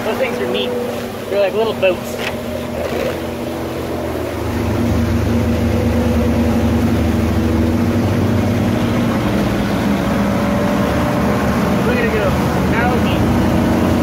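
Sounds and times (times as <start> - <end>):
outboard motor running: 0.0 - 14.0
water rushing: 0.0 - 14.0
wind: 0.0 - 14.0.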